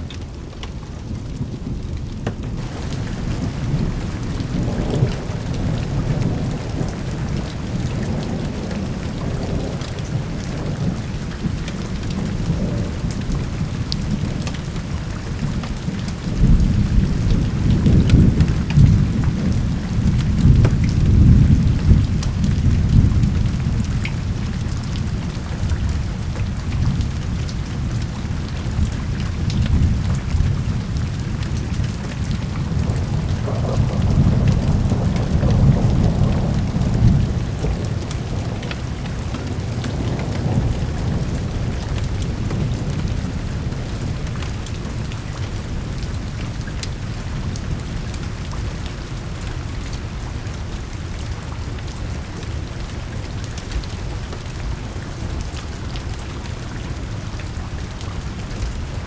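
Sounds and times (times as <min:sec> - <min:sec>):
heavy rain: 0:00.0 - 0:59.0
thunder rumbling: 0:00.2 - 0:52.3.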